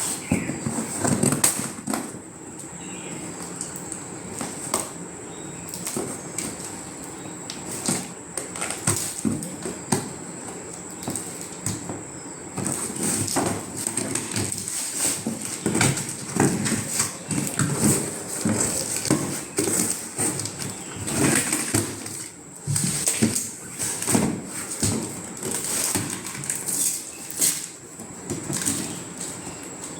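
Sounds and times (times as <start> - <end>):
cardboard and plastic rustling: 0.0 - 29.9.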